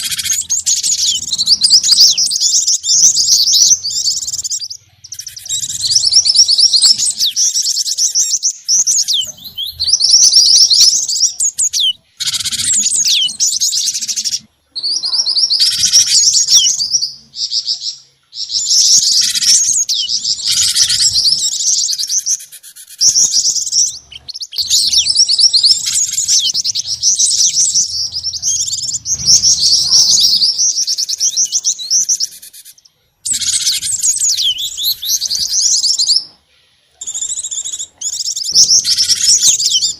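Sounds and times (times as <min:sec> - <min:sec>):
songbirds chirping in trills: 0:00.0 - 0:39.9.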